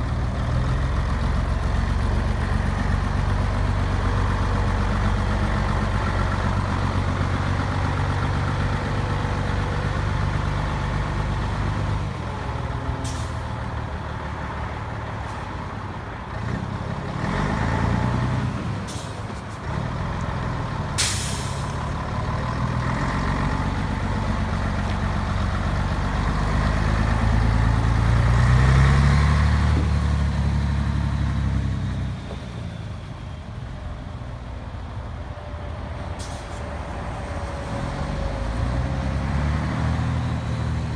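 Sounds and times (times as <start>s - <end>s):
diesel truck engine revving: 0.0s - 33.1s, 36.8s - 40.9s.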